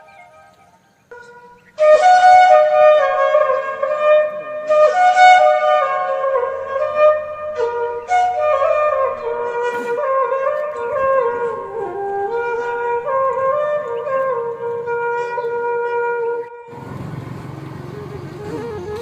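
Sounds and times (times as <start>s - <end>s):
flute melody: 0.0s - 16.8s, 17.5s - 19.0s.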